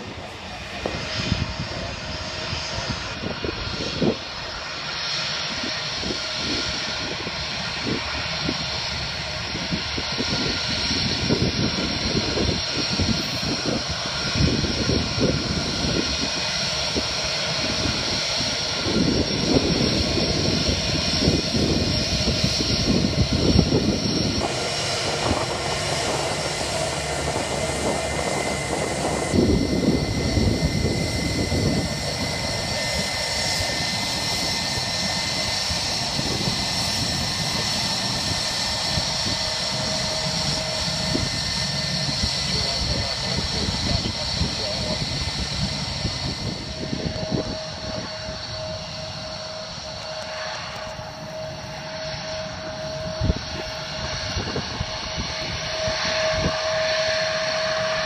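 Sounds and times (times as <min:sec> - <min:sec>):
jet engines whining: 0:00.0 - 0:58.0
wind buffeting microphone: 0:00.0 - 0:58.0.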